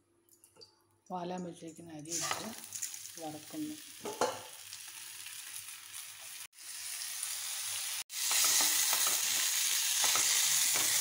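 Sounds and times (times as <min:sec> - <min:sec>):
rice sizzling in a hot pan: 0:02.1 - 0:11.0.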